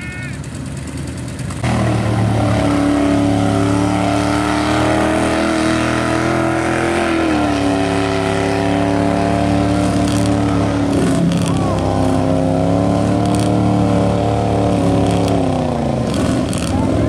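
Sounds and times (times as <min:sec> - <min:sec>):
truck engine revving hard: 0:01.6 - 0:17.0.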